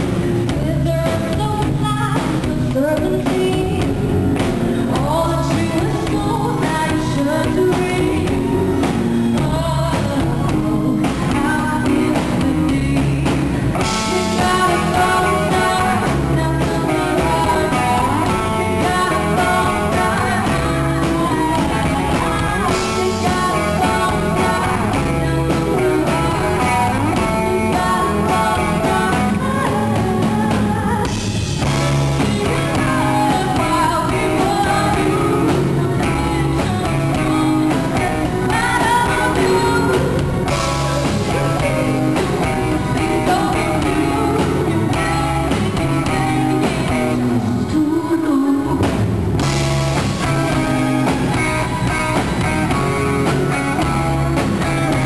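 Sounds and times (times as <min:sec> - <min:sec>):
electric guitar: 0:00.0 - 0:55.0
live band music: 0:00.0 - 0:55.0
woman singing: 0:00.3 - 0:55.0.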